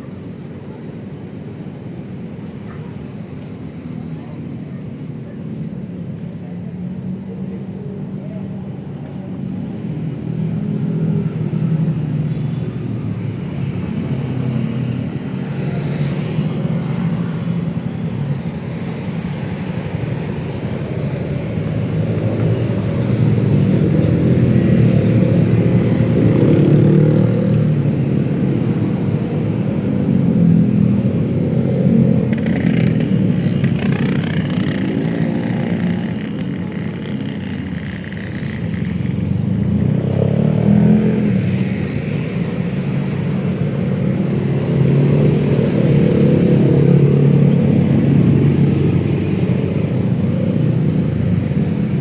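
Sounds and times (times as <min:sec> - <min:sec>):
cars and motorcycles passing: 0:00.0 - 0:52.0.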